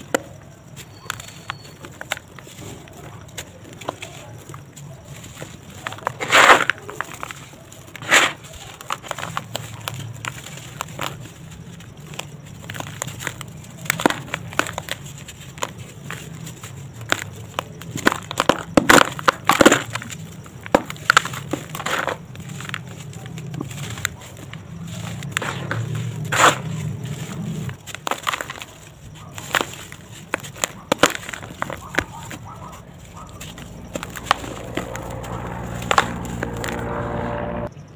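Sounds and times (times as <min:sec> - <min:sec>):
dry cement crumbling and crunching: 0:00.0 - 0:37.0.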